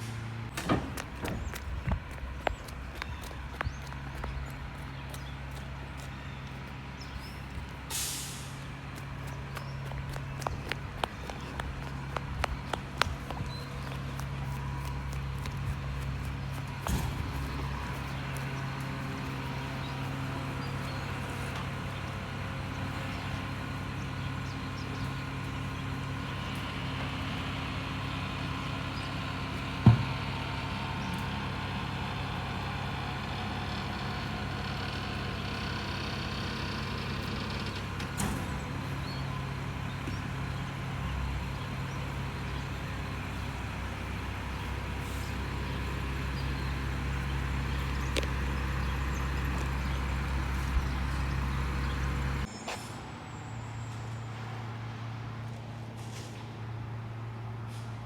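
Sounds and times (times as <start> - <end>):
garbage truck engine hum: 0.0 - 58.0.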